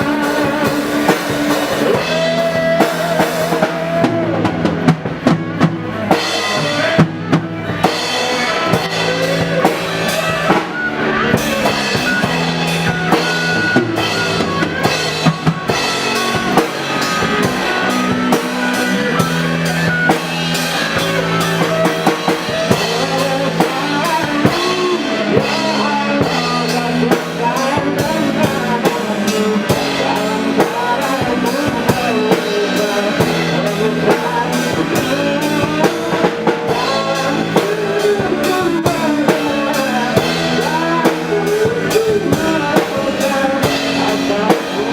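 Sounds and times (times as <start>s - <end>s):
drum kit beat: 0.0s - 44.9s
live band playing: 0.0s - 44.9s.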